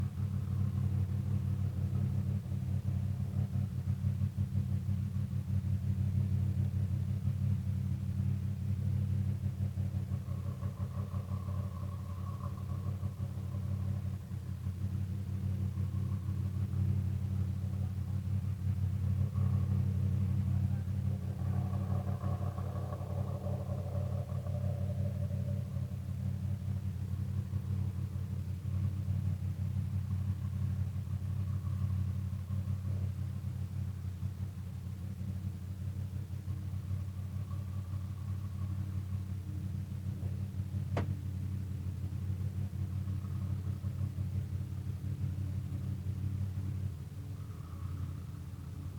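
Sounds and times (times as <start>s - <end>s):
distant vehicle engines droning: 0.0s - 48.9s.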